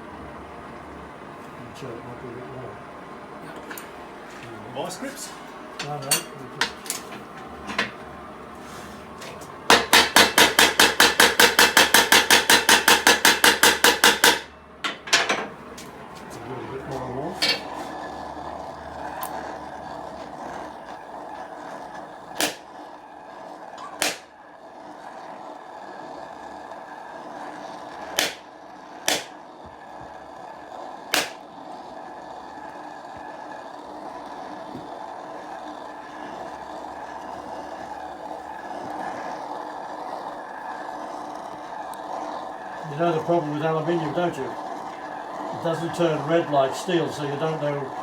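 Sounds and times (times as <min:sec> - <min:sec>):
gas torch flame hissing: 0:00.0 - 0:48.0.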